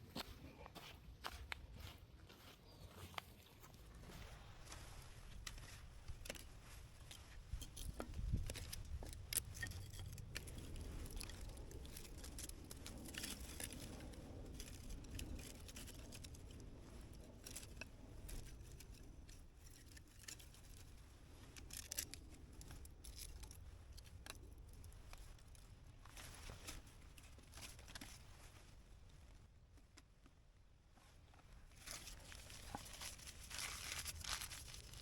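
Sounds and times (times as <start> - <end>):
rustling: 3.8 - 30.0, 31.0 - 35.0.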